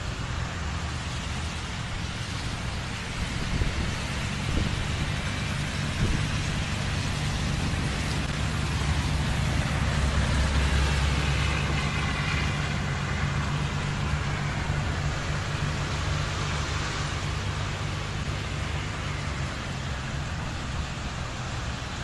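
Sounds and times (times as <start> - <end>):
rain hiss: 0.0 - 22.0
vehicle engine rumbling: 0.0 - 22.0.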